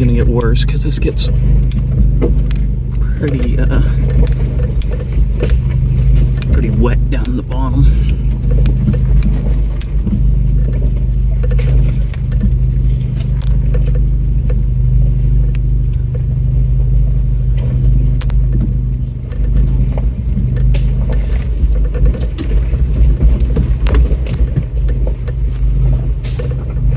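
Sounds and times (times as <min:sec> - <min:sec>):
body and loose items rattling: 0:00.0 - 0:15.5, 0:17.5 - 0:26.9
truck engine running low: 0:00.0 - 0:26.9.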